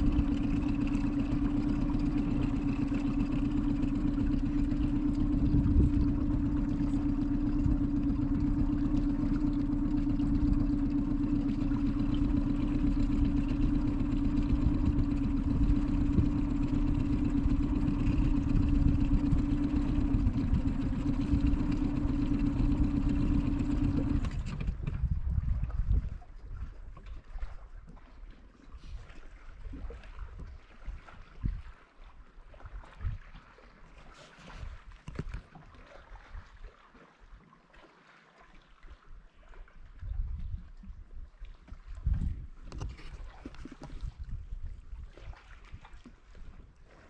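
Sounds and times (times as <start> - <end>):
boat motor running: 0.0 - 36.6, 39.5 - 47.0.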